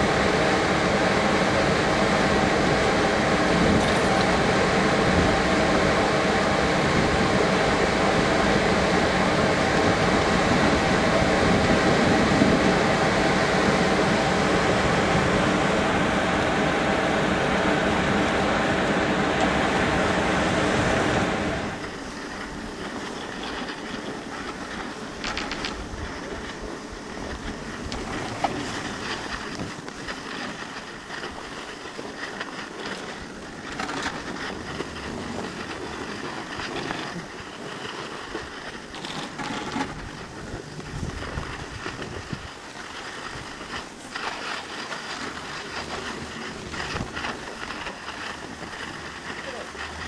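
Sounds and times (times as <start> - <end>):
skis scraping over snow: 0.0 - 50.0.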